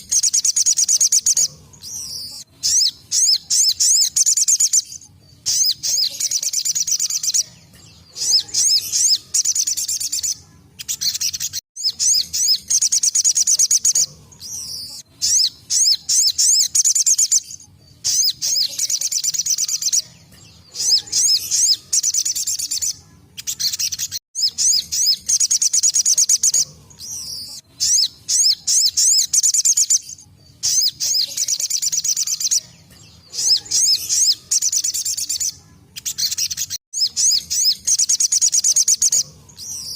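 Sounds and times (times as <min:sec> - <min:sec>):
bird singing fast sharp notes: 0:00.0 - 0:39.9.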